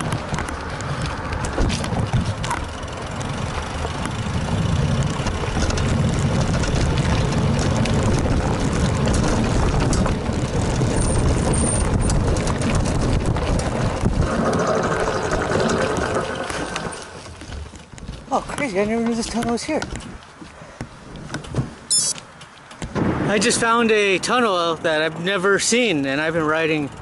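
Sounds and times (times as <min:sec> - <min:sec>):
bike rattling and knocking: 0:00.0 - 0:21.8
bike tyres rumbling on dirt: 0:00.0 - 0:21.8.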